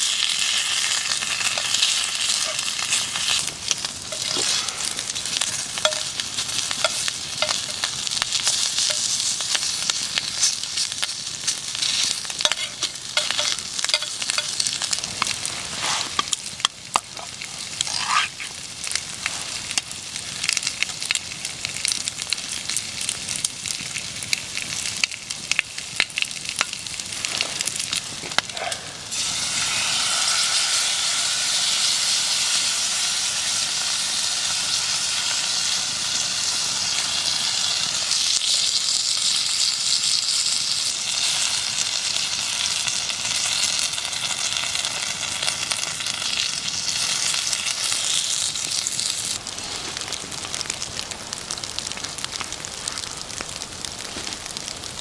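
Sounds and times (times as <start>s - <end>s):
campfire crackling: 0.0s - 55.0s
food sizzling in a pan: 0.0s - 55.0s.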